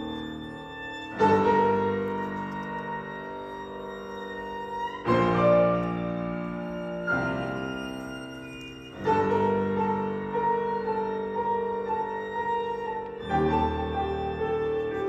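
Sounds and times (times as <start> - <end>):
string trio playing chamber music: 0.0 - 15.0.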